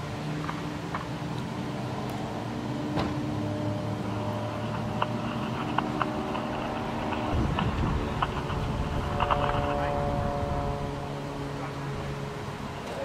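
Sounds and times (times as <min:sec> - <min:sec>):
car engines idling: 0:00.0 - 0:13.0.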